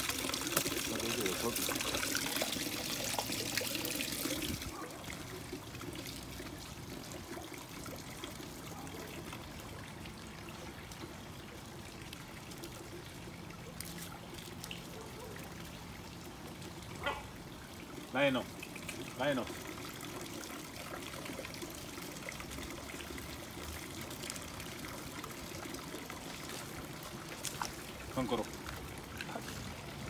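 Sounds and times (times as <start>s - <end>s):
fountain water trickling and splashing: 0.0s - 30.0s.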